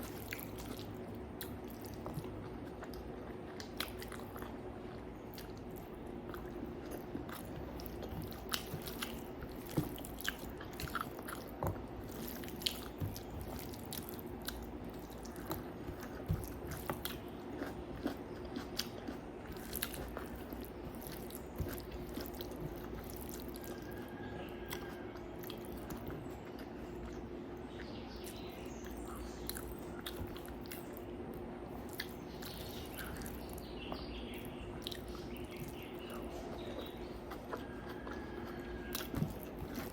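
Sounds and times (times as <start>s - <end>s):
close chewing and mouth smacks: 0.0s - 39.9s
steady low hum: 0.0s - 39.9s.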